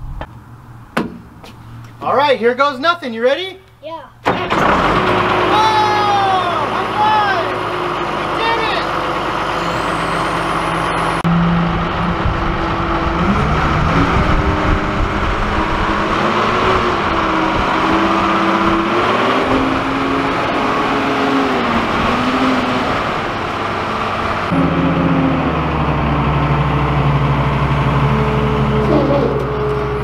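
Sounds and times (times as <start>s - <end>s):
wheel loader diesel engine revving: 4.3s - 30.0s.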